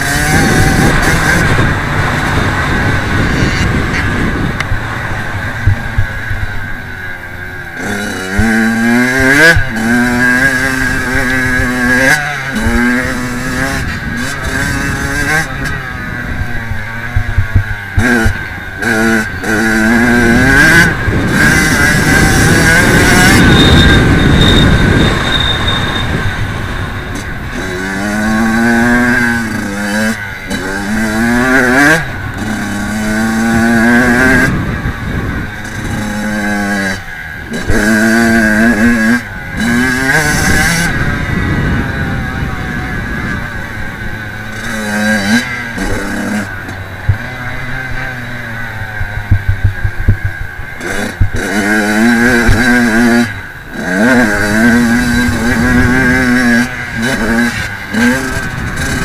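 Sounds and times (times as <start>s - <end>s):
dense rushing noise: 0.0s - 59.0s
motocross engine revving: 0.0s - 59.0s.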